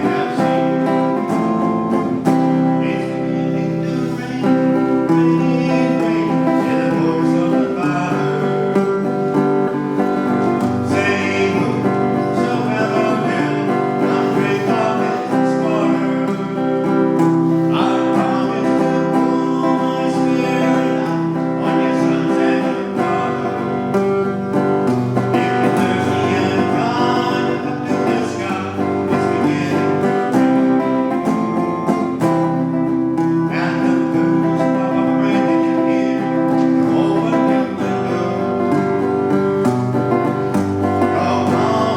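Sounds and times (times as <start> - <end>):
guitar chords: 0.0 - 41.9.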